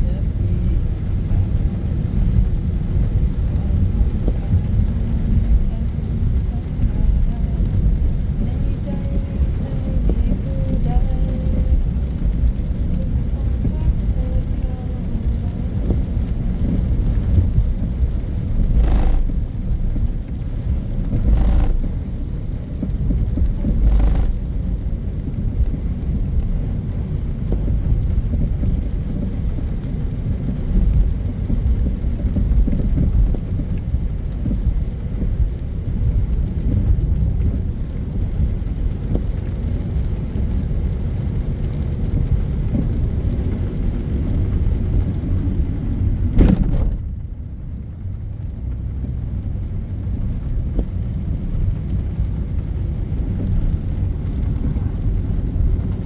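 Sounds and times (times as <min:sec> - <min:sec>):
vehicle rumbling along road: 0:00.0 - 0:56.0
wind noise on microphone: 0:00.0 - 0:56.0.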